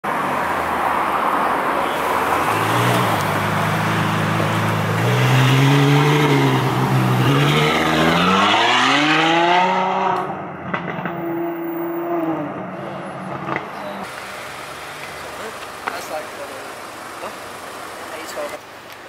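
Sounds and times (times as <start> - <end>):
loud car engine driving past: 1.2 - 18.2.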